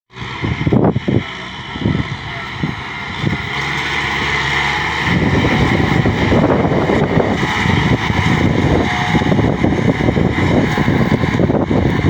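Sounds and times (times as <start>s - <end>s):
farm machine engine running: 0.1s - 12.0s
rough rumble: 0.1s - 12.0s.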